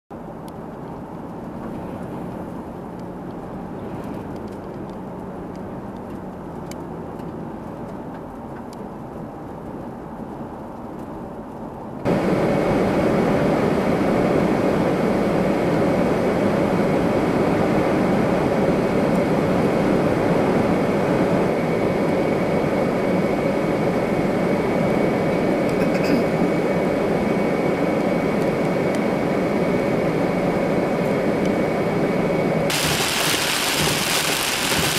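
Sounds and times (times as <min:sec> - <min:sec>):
wind and road noise in car: 0:00.1 - 0:34.9.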